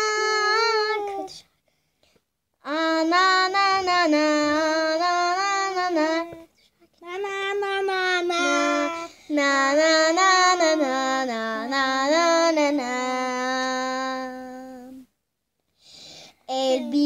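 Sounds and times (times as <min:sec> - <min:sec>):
girl singing unaccompanied: 0:00.0 - 0:01.6, 0:02.6 - 0:15.2, 0:16.3 - 0:17.0.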